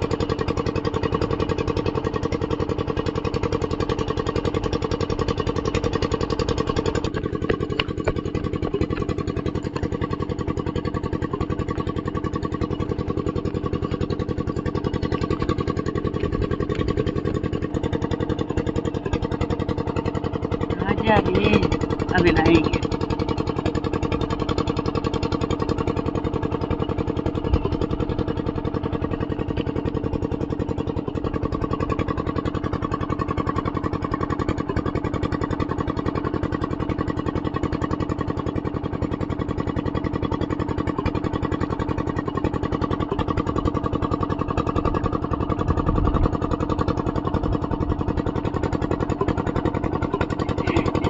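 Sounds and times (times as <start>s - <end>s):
small engine running steadily: 0.0s - 51.0s.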